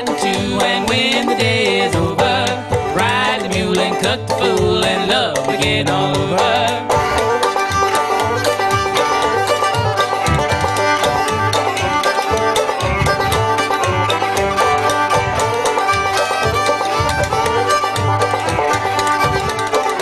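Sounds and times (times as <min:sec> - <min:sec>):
banjo: 0:00.0 - 0:20.0
fiddle: 0:00.0 - 0:20.0.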